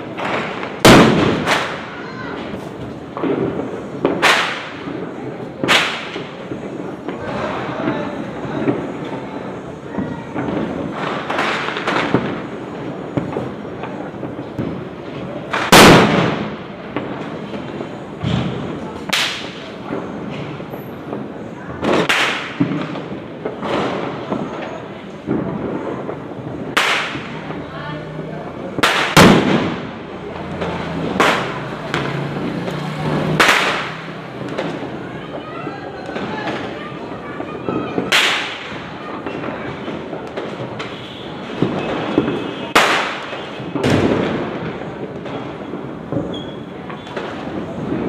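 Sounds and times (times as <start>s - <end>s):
firecrackers popping: 0.0s - 48.0s
loud firecracker bang: 0.0s - 48.0s.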